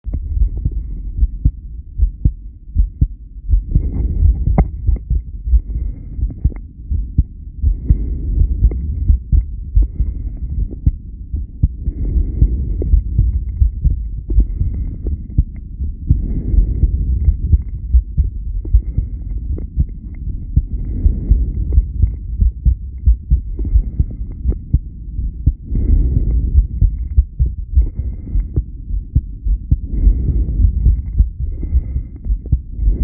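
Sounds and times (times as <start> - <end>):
heartbeat thumps: 0.0 - 33.0
low rumbling background: 0.0 - 33.0.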